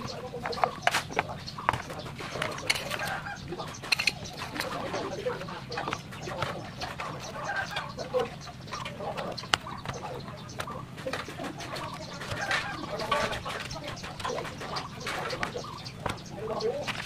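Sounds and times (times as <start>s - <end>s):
animal calls: 0.0s - 17.0s.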